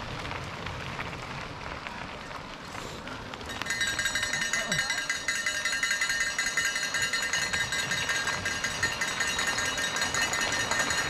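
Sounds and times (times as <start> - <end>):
mountain bike rattling over trail: 0.0 - 11.0.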